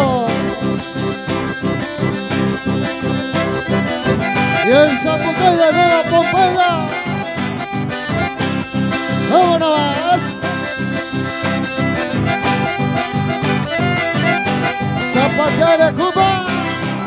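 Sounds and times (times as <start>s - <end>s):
accordion dance music: 0.0s - 17.0s.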